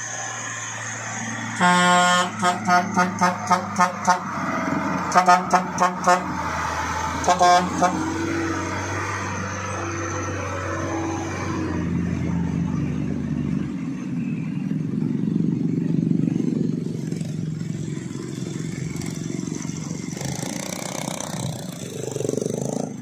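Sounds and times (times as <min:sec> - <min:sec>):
motorcycle engines passing: 0:00.0 - 0:23.0
truck diesel engine pulling away: 0:00.0 - 0:23.0.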